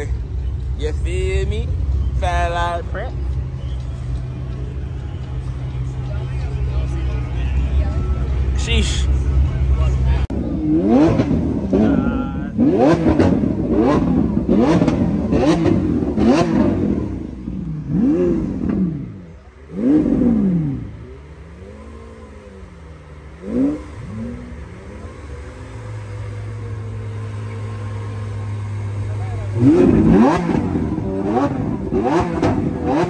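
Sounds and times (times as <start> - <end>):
car engine revving and idling: 0.0 - 33.0.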